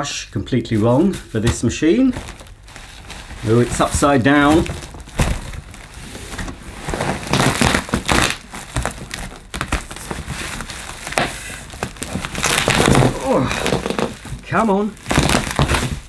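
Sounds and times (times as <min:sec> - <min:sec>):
cardboard rustling and scraping: 0:00.7 - 0:16.0
bubble wrap crinkling: 0:00.8 - 0:16.0.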